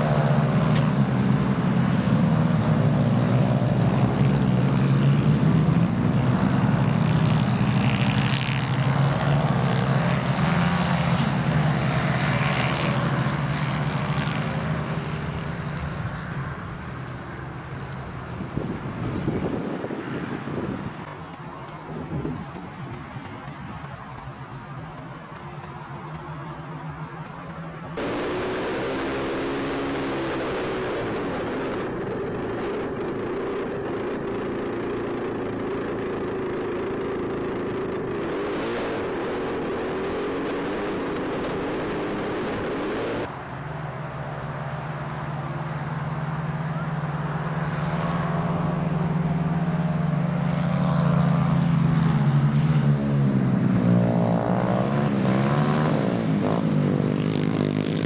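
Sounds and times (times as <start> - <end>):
kart engines droning: 0.0 - 58.0
karts racing by: 0.0 - 58.0.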